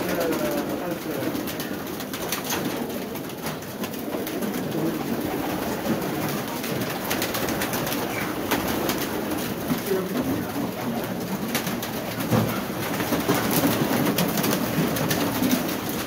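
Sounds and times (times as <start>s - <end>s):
pigeons cooing: 0.0s - 16.0s
wings fluttering and clapping: 0.0s - 16.0s.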